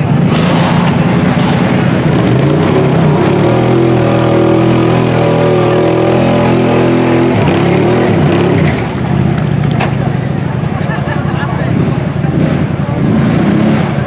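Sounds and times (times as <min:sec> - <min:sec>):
atv engine revving hard: 0:00.0 - 0:14.0.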